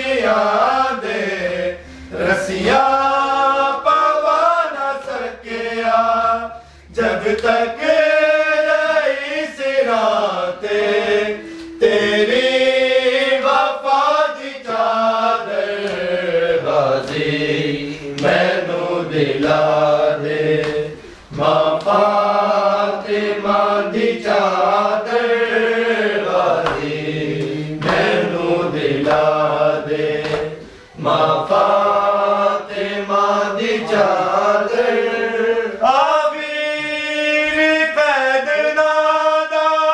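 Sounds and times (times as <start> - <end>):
men chanting a lament: 0.0 - 39.9.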